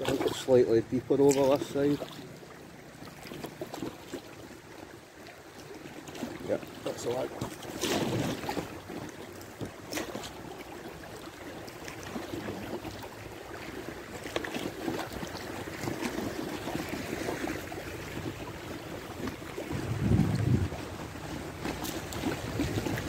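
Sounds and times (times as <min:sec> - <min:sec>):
river water rippling and splashing: 0:00.0 - 0:23.0.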